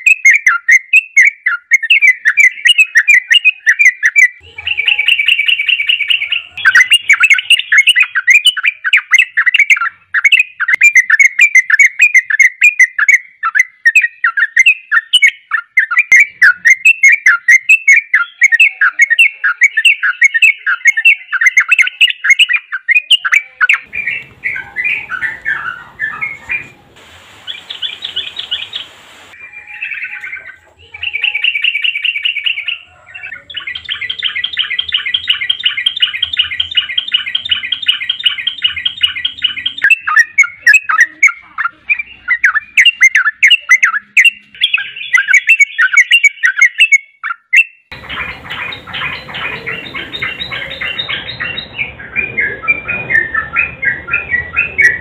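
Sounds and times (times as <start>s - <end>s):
bulbuls chattering song: 0.0s - 55.0s
fast bird trill: 0.0s - 55.0s.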